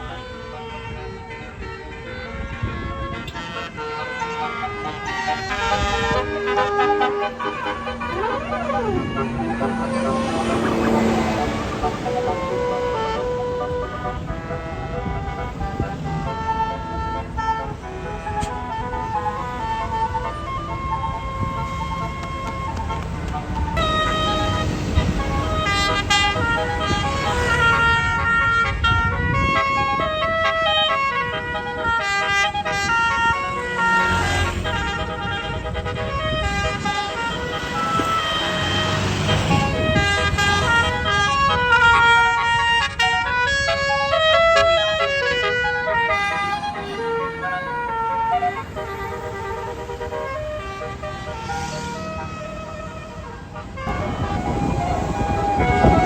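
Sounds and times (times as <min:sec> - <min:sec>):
bus engine rumbling: 0:00.0 - 0:56.0
bus horn playing a tune: 0:00.0 - 0:56.0.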